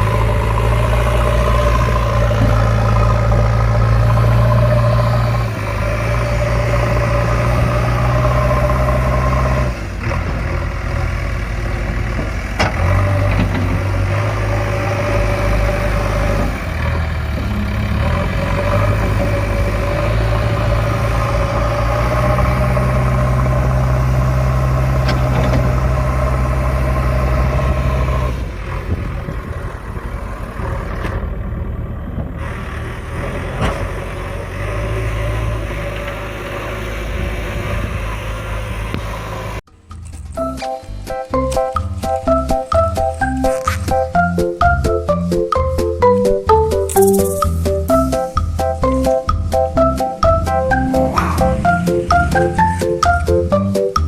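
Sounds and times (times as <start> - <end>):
vehicle engine hum: 0.0 - 54.0.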